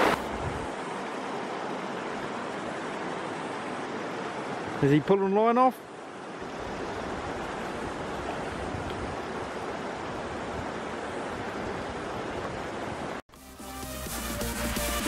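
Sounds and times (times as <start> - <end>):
river water rushing over stones: 0.0 - 13.2.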